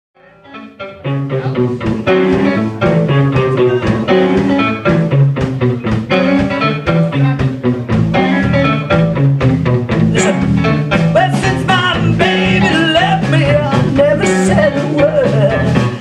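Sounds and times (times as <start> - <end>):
electric guitars: 0.2 - 16.0
drum kit beat: 0.8 - 16.0.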